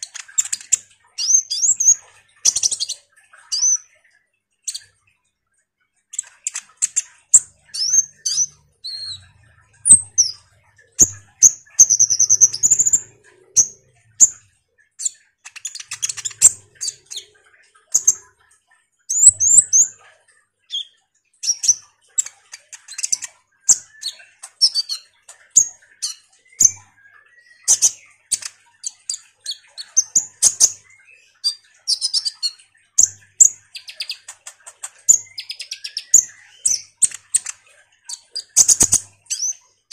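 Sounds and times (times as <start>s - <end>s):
sunbird chirping and trilling: 0.0s - 5.1s, 6.1s - 39.9s.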